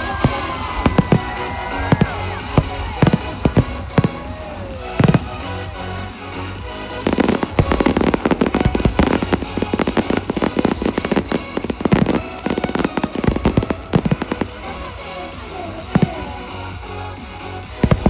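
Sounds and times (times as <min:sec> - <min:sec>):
firework bursts: 0:00.0 - 0:18.0
music playing: 0:00.0 - 0:18.0.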